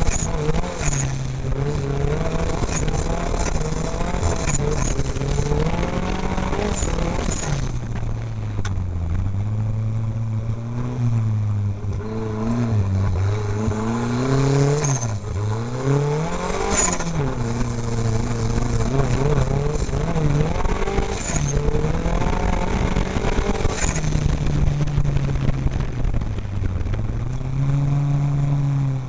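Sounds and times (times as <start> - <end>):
race vehicle engine revving: 0.0 - 29.0.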